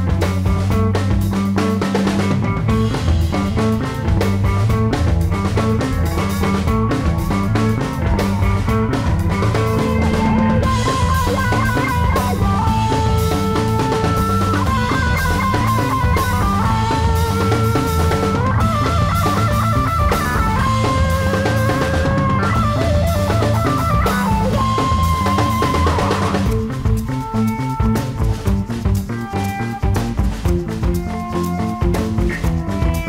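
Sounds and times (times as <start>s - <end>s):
music with drums and guitar: 0.0s - 33.0s.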